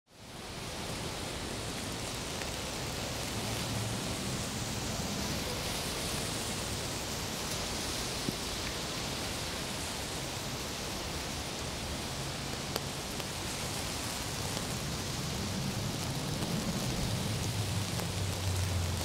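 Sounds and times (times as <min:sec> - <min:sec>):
steady rain hiss: 0:00.1 - 0:19.0.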